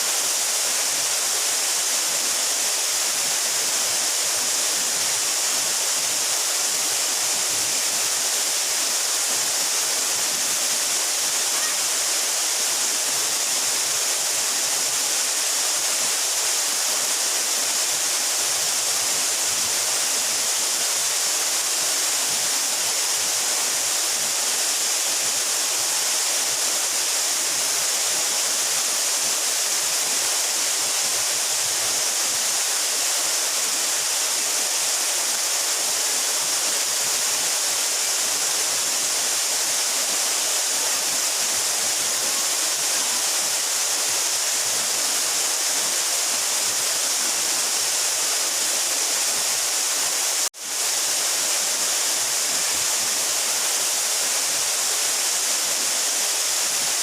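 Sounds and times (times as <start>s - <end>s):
waterfall splashing into pool: 0.0s - 57.0s.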